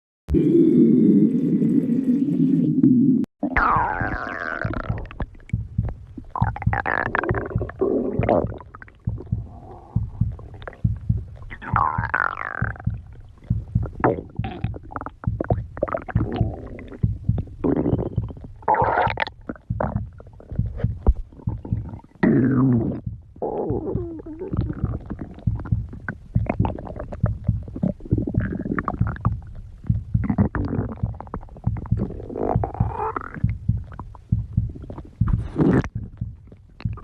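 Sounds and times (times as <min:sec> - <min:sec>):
stomach growling: 0:00.3 - 0:37.0.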